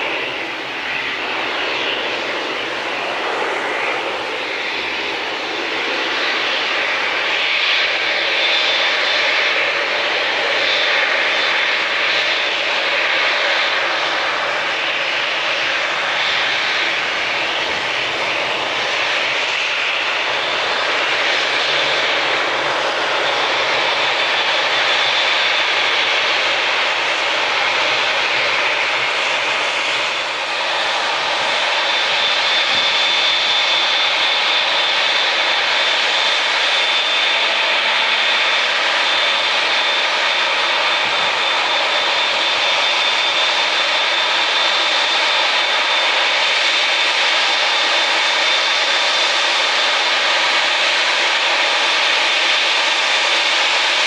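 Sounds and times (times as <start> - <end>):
jet engines at high power: 0.0 - 54.0.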